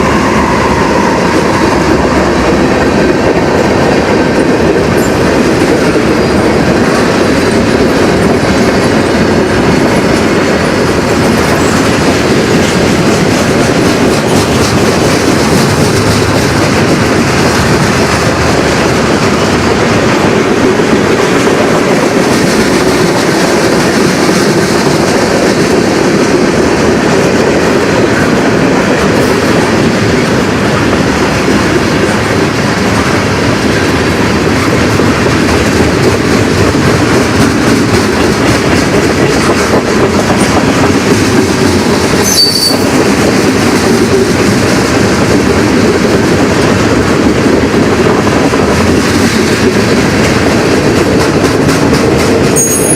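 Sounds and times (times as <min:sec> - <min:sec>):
freight train cars rolling past: 0:00.0 - 0:52.9
wheels clickety-clack on rail: 0:00.0 - 0:52.9.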